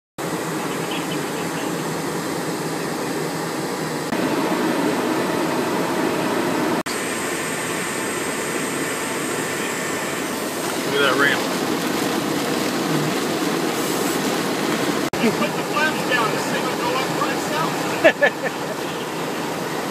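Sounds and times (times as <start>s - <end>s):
jet aircraft noise: 0.2s - 19.9s.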